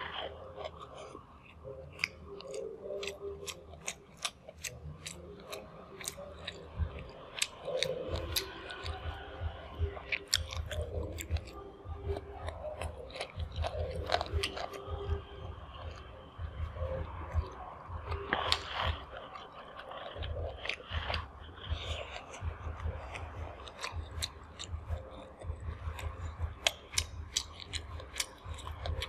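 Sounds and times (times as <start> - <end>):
low chewing thumps: 0.0 - 29.0
wet mouth clicks: 0.0 - 29.0.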